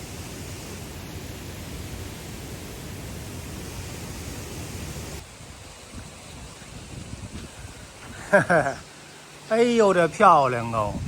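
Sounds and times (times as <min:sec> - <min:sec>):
rushing stream water: 0:00.0 - 0:10.8.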